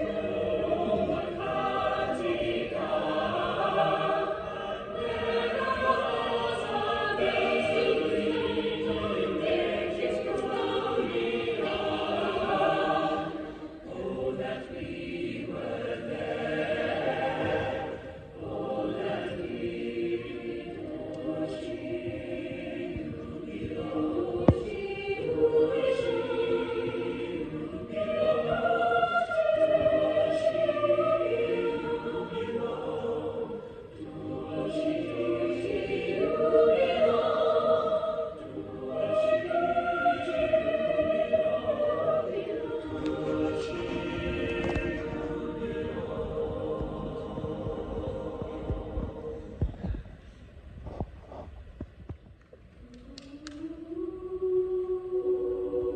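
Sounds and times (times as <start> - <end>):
choir singing in reverberant hall: 0.0 - 55.9.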